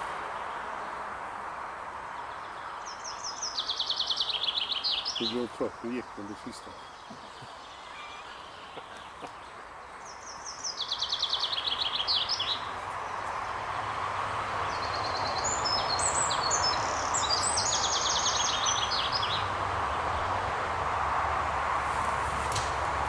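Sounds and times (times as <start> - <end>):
songbird singing: 0.0 - 20.4.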